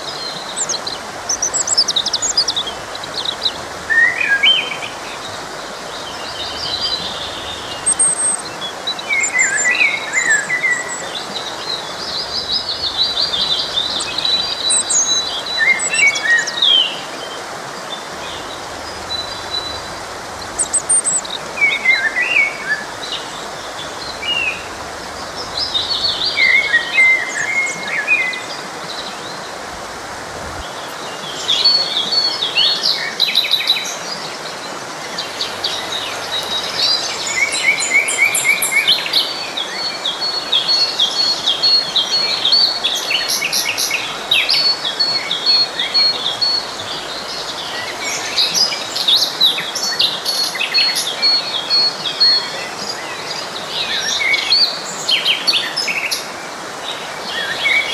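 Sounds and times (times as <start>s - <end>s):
flowing stream: 0.0s - 57.9s
songbirds chirping: 0.0s - 57.9s.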